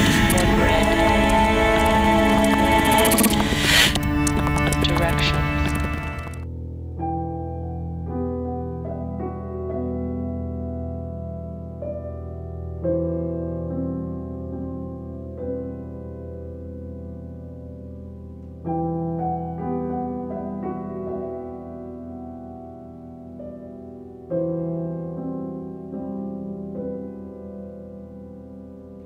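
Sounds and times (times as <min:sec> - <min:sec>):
slow piano chords ringing: 0:00.0 - 0:29.0.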